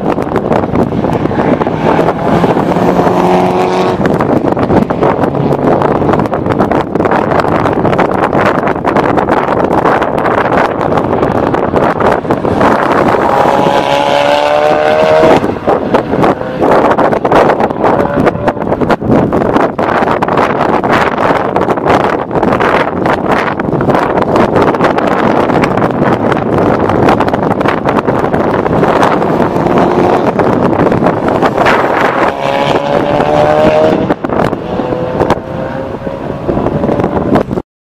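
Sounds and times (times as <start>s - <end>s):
car engine accelerating: 0.0s - 7.7s, 9.2s - 21.4s, 23.3s - 37.6s
wind buffeting microphone: 0.0s - 37.6s.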